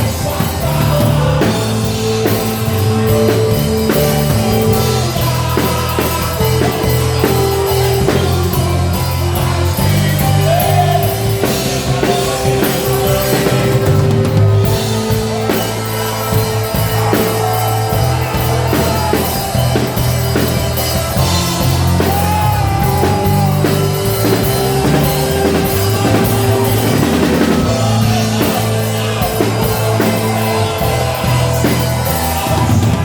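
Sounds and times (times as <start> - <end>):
bass guitar notes: 0.0 - 33.0
drum kit beat: 0.0 - 33.0.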